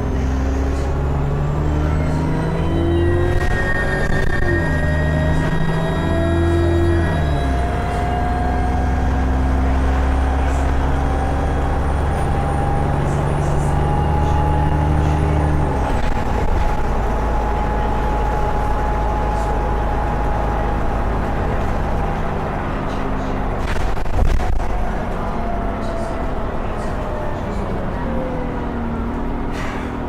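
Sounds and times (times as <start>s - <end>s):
bus engine running: 0.0s - 30.0s.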